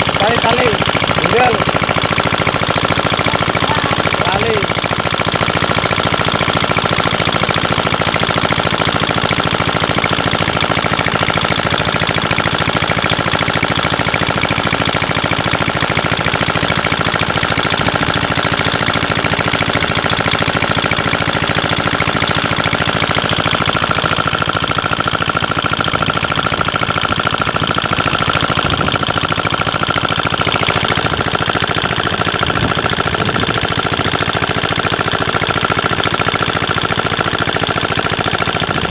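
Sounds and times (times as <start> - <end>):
engine running with rattling beat: 0.0 - 38.9.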